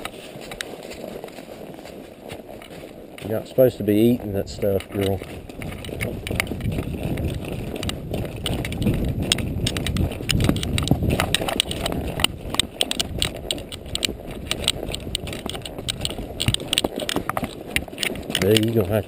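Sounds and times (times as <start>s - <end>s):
horse hooves on rocky trail: 0.0s - 19.0s
loose rocks shifting: 2.6s - 19.0s
wind rumble on microphone: 2.6s - 19.0s.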